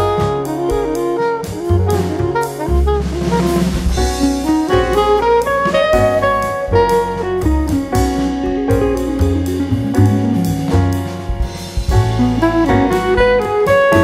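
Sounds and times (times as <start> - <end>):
instrumental jazz: 0.0 - 14.0.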